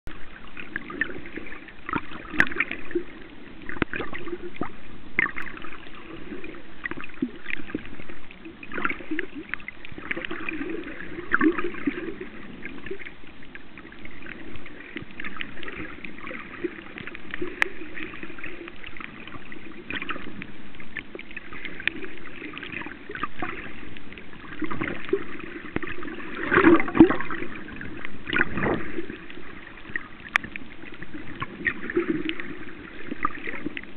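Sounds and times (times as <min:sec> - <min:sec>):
water sloshing and gurgling: 0:00.1 - 0:33.9.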